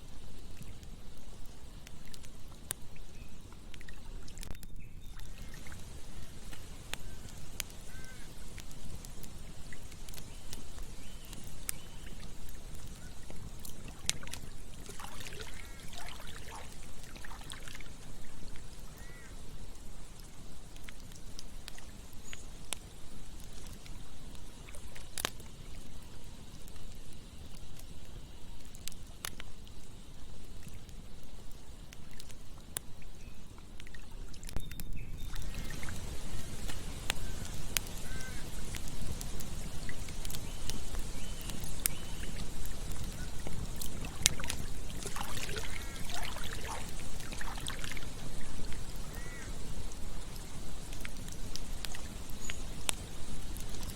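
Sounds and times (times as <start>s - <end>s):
running water: 0.0s - 26.7s, 35.2s - 53.9s
campfire crackling and popping: 0.0s - 53.9s
hiss of flames: 0.0s - 53.9s.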